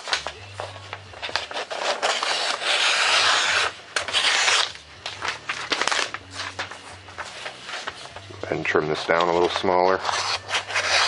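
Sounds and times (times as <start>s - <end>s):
paper rustling and scraping: 0.0s - 11.0s.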